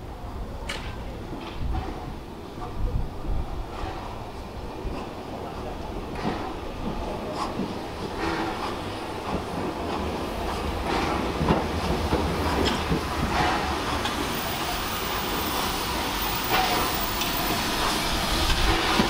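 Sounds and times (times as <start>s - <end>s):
train rumbling: 0.0s - 19.0s
wheels clicking on rails: 3.6s - 19.0s.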